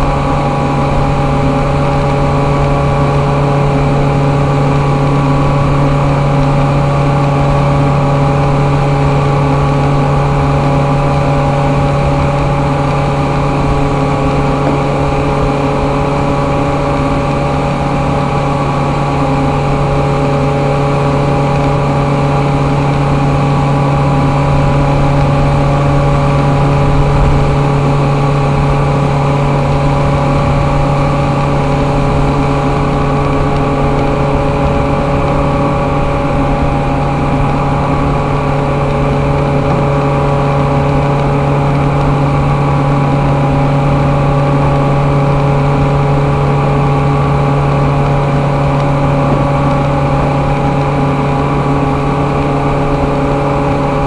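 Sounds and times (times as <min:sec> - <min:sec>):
industrial machinery drone: 0:00.0 - 0:54.0.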